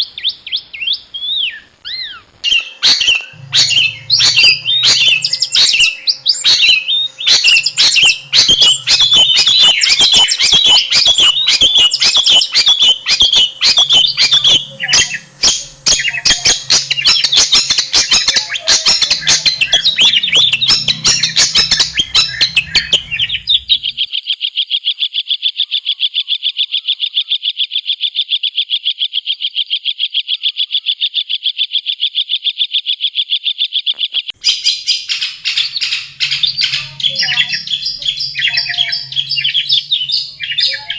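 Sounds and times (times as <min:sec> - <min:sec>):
bird chattering song: 0:00.0 - 0:40.9
bird rapid trill: 0:00.0 - 0:40.9.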